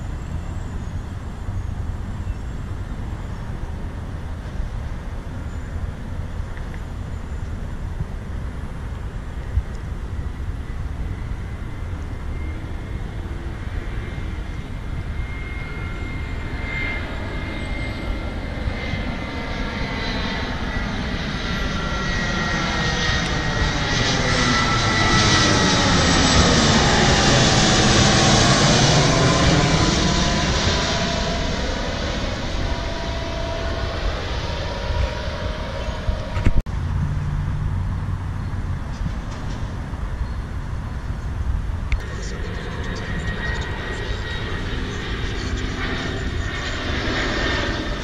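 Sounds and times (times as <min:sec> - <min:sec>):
jet airliner passing overhead: 0:00.0 - 0:48.0.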